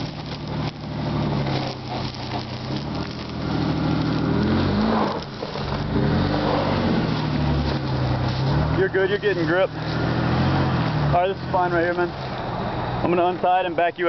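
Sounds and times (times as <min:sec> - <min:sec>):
pickup truck engine under load: 0:00.0 - 0:14.0.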